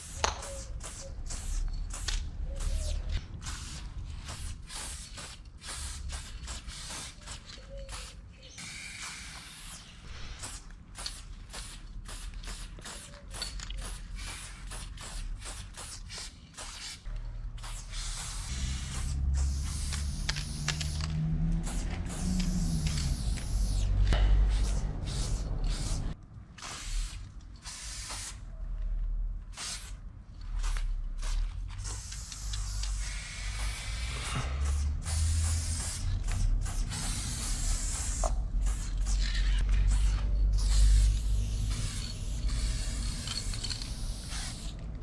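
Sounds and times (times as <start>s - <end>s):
spray paint can hissing: 0.0s - 28.5s, 29.5s - 44.8s.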